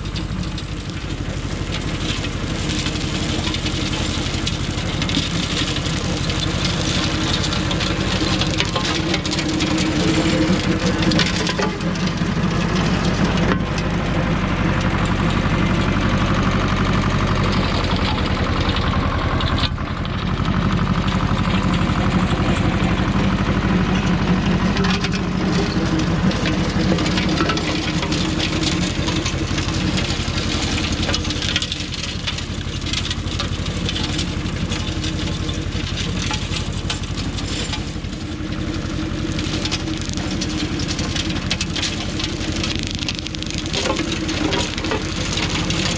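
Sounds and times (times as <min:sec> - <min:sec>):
tractor engine running under load: 0:00.0 - 0:45.9.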